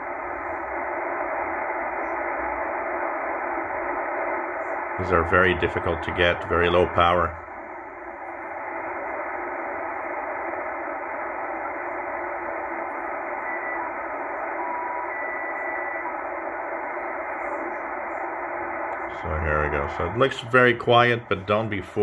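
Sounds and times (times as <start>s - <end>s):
faint radio whistles: 0.0s - 22.0s
radio static: 0.0s - 22.0s.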